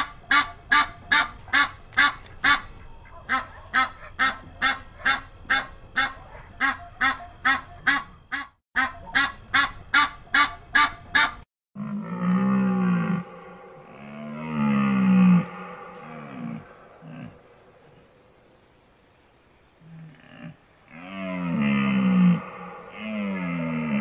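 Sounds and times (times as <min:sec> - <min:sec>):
deep drawn-out animal call: 0:00.0 - 0:18.6, 0:19.8 - 0:24.0.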